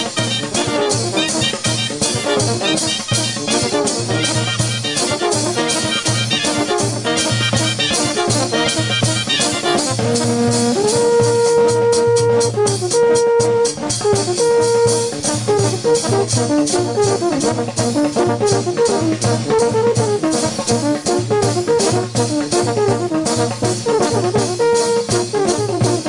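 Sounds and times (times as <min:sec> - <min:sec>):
bass drum and cymbal beat: 0:00.0 - 0:26.0
brass band playing: 0:00.0 - 0:26.0.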